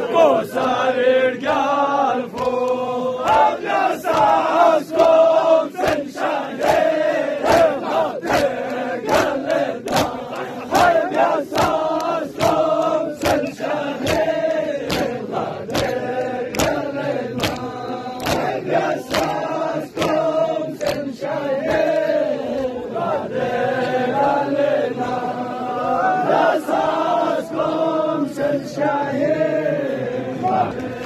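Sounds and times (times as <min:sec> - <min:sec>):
rhythmic chest slaps: 0:00.0 - 0:25.6, 0:30.4 - 0:31.0
men chanting in unison: 0:00.0 - 0:31.0.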